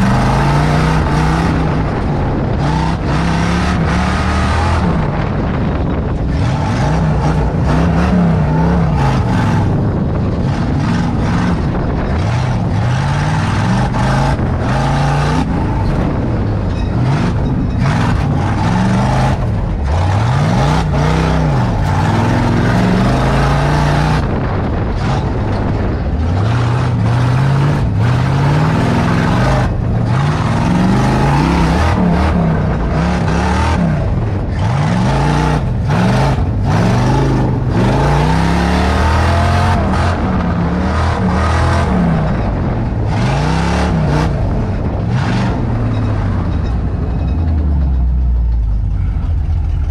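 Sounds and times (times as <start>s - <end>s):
truck body rattling over bumps: 0.0s - 49.9s
truck engine revving: 0.0s - 49.9s.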